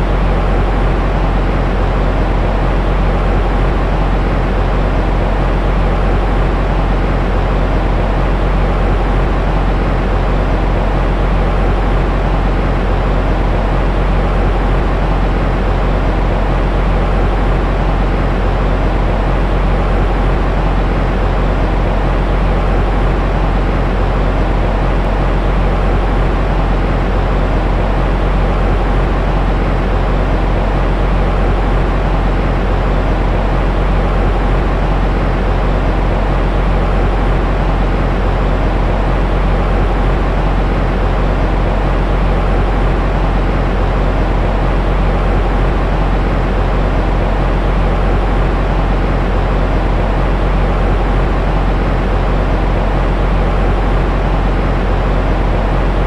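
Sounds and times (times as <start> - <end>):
low rumbling soothing noise: 0.0 - 56.0.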